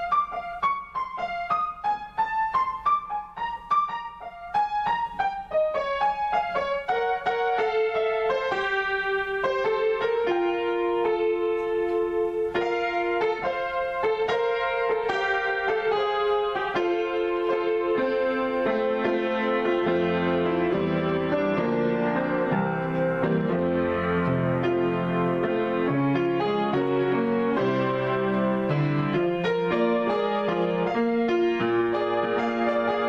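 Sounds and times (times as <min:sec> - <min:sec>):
solo piano improvisation: 0:00.0 - 0:33.0.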